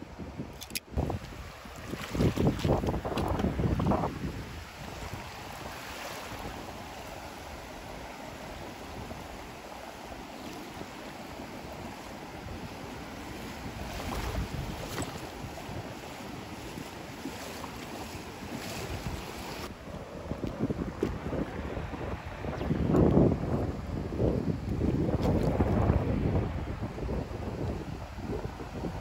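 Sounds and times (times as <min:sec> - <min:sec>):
small waves on sandy beach: 0:00.0 - 0:29.0
wind gusting over microphone: 0:00.0 - 0:29.0.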